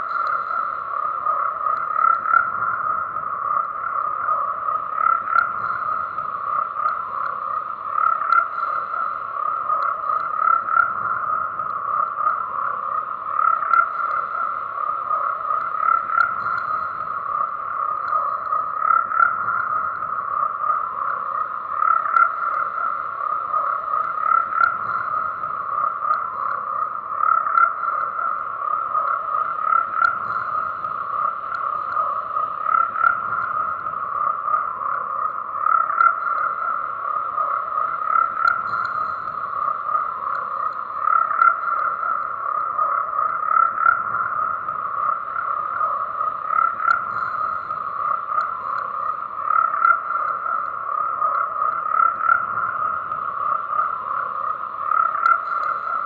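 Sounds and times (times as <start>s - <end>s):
chorus of frogs calling: 0.0s - 56.0s.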